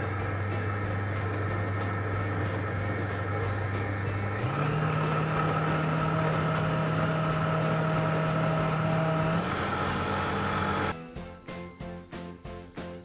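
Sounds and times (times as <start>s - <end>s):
food processor blade motor running: 0.0s - 11.0s.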